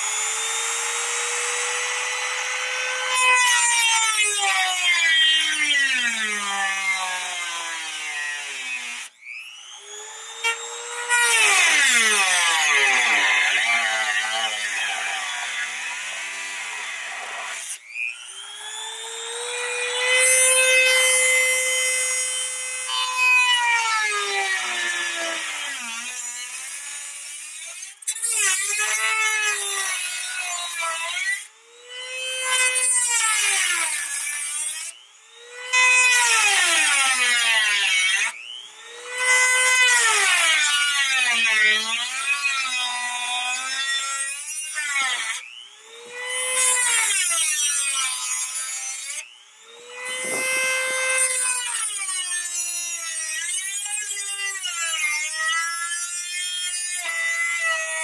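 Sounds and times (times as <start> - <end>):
rotary tool cutting metal: 0.0 - 58.0.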